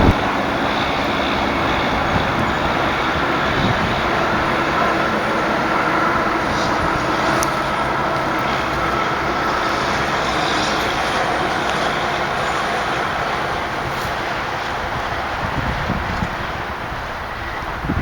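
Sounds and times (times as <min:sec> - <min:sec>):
vehicle road noise: 0:00.0 - 0:18.0.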